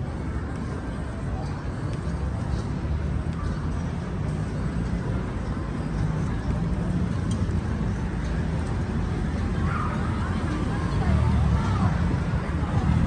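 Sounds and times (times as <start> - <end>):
busy city street rumble: 0.0 - 13.0.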